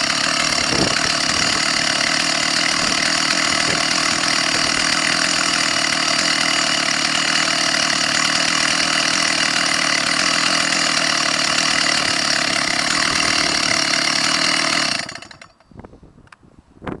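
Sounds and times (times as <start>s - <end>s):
chainsaw idling: 0.0s - 15.8s.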